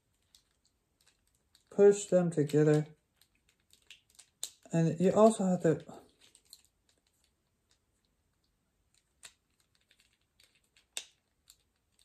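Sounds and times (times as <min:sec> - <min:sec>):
plastic toy parts clicking: 0:00.1 - 0:01.7, 0:02.4 - 0:07.8, 0:08.4 - 0:12.0.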